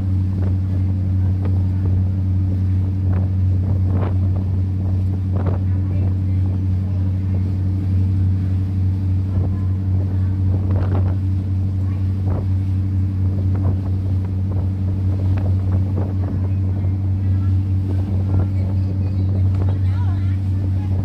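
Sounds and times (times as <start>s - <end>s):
boat engine droning: 0.0s - 21.0s
water splashing: 0.0s - 21.0s
wind on microphone: 0.0s - 21.0s.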